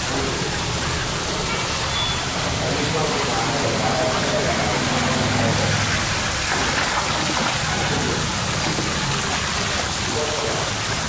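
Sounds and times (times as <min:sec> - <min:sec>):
water jetting from a hose: 0:00.0 - 0:11.0.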